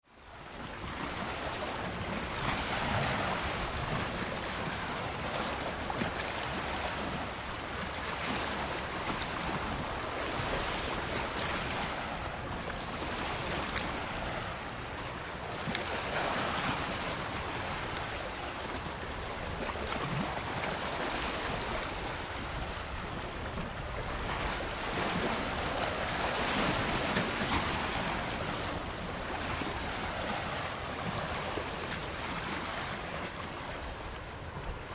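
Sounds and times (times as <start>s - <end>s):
ocean waves on a beach: 0.0s - 34.9s.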